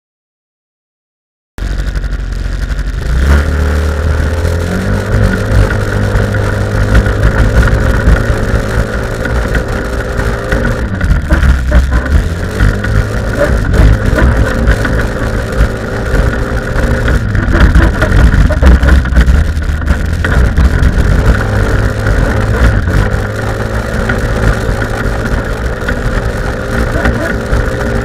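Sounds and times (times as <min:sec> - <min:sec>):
buggy engine revving: 0:01.6 - 0:28.0.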